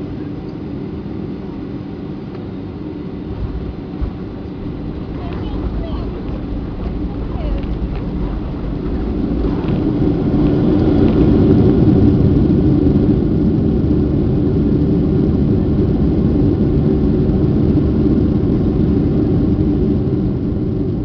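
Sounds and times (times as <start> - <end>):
jet engine roar inside cabin: 0.0 - 21.0.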